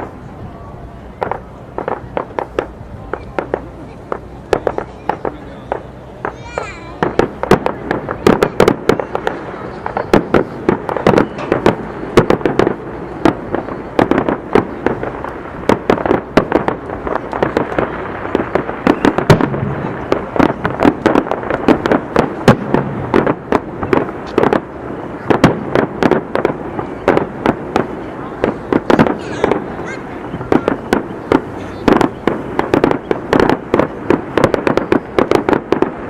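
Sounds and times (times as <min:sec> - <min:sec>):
fireworks bangs: 0:00.0 - 0:36.0
rumble of shell bursts: 0:01.2 - 0:36.0.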